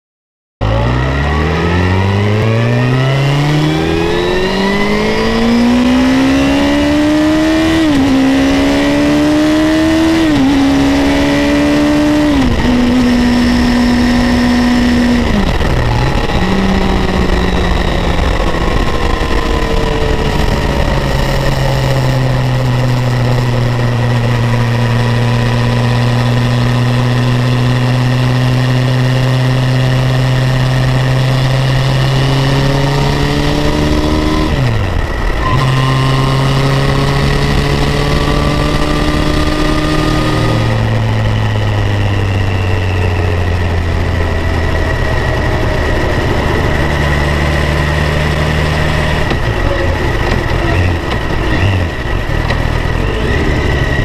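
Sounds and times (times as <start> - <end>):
motorcycle engine revving: 0.6 - 54.0
wind and road rush: 0.6 - 54.0.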